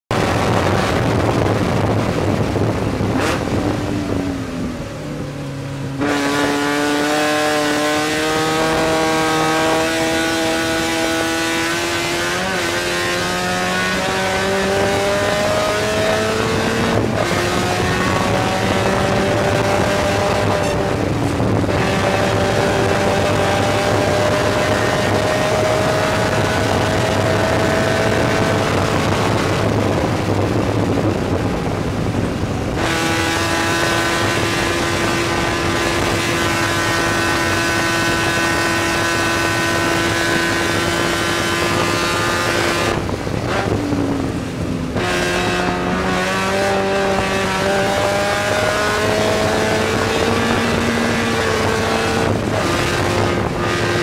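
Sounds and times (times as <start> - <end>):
race car engine pulling hard: 0.1 - 54.0
road and wind noise hiss: 0.2 - 54.0.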